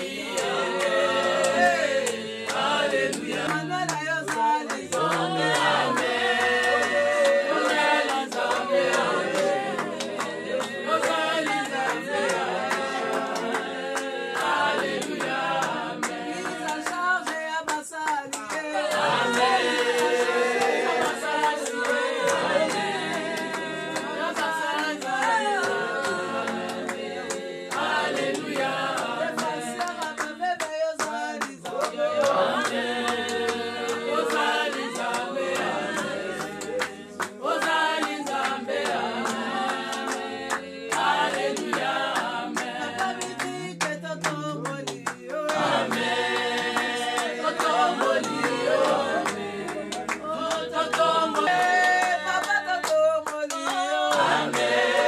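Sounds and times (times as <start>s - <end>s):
hand clapping: 0.0s - 55.0s
women singing unaccompanied: 0.0s - 55.0s.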